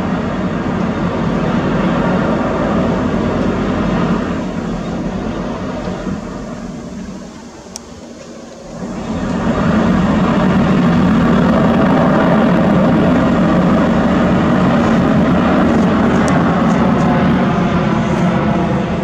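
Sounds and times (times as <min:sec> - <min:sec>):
aircraft engine rumble: 0:00.0 - 0:19.0.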